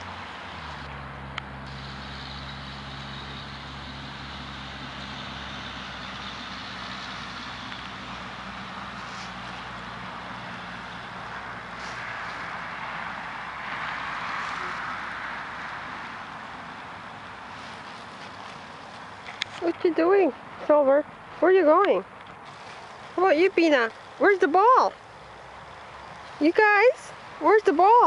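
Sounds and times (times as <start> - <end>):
engine running with low hum: 0.0 - 28.0
steady hiss: 1.6 - 19.6, 22.4 - 27.8.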